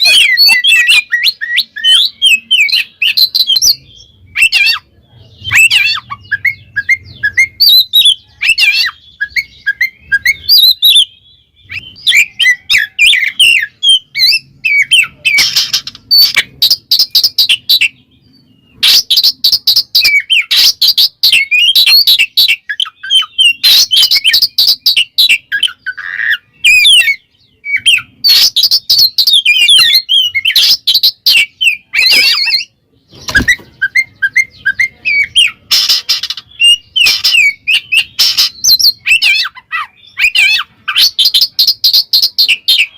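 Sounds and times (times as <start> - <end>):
bird singing whistles and trills: 0.0 - 42.9.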